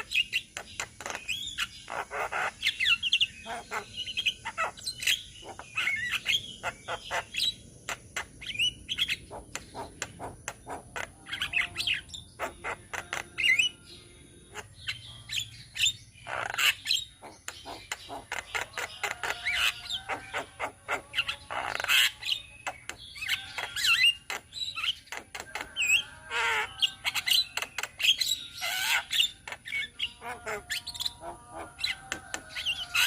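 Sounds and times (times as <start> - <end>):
mynas chattering and squawking: 0.0 - 33.0.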